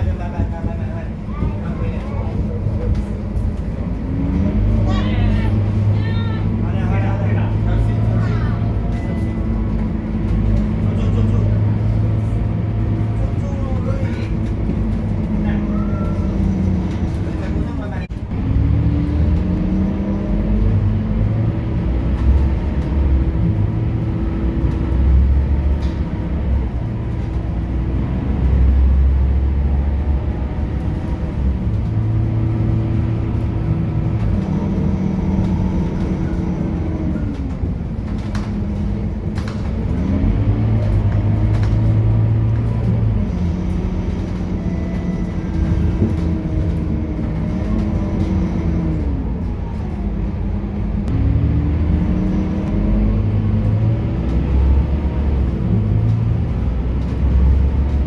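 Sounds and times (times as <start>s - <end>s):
bus engine and gearbox whine: 0.0s - 58.0s.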